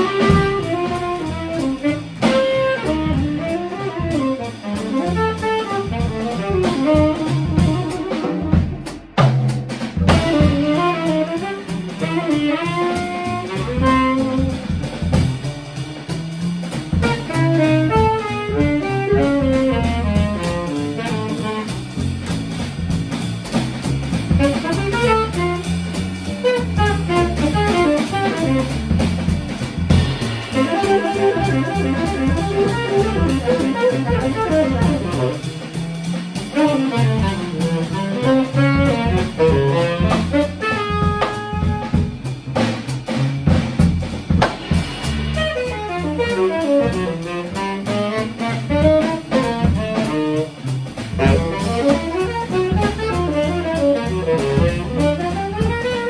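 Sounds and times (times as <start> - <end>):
tenor saxophone improvising: 0.0 - 9.2, 10.1 - 15.5, 17.0 - 42.4, 45.0 - 56.0
drum kit played with sticks: 0.0 - 56.0
plucked double bass: 0.0 - 56.0.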